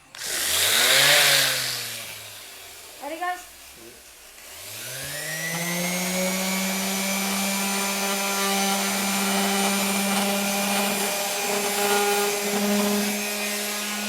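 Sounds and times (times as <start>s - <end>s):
electric motor spinning: 0.1s - 14.0s.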